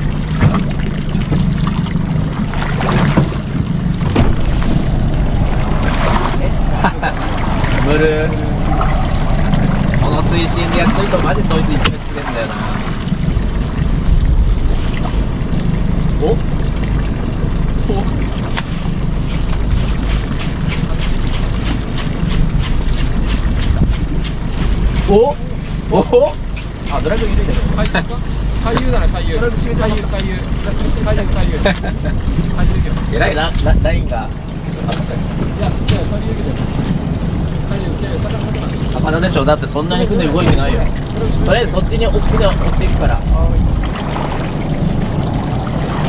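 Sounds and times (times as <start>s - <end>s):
wind on microphone: 0.0s - 16.4s, 17.5s - 39.1s, 40.2s - 46.0s
boat engine hum: 0.0s - 46.0s
low rumble: 0.0s - 46.0s
water lapping against hull: 0.0s - 46.0s.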